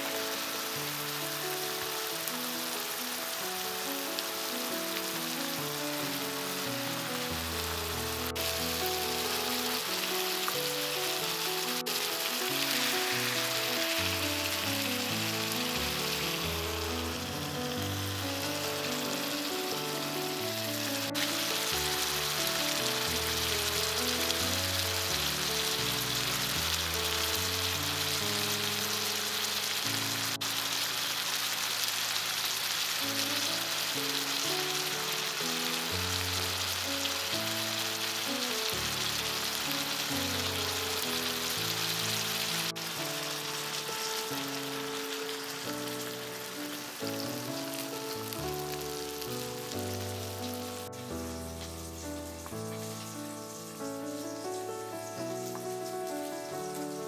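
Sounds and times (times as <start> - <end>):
background music: 0.0 - 30.9, 33.1 - 57.0
food sizzling in a frying pan: 0.0 - 57.0.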